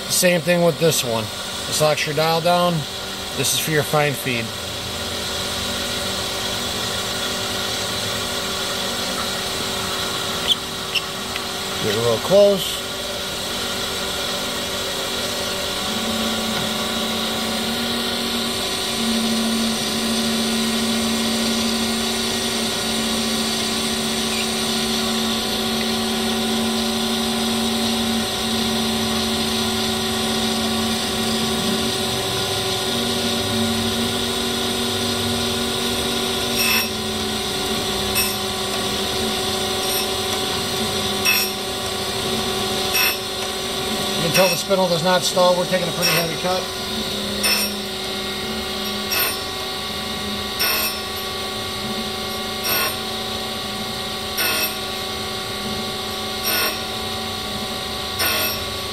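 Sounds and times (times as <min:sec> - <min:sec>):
grinding wheel hiss: 0:00.0 - 0:58.9
machine hum: 0:00.0 - 0:58.9.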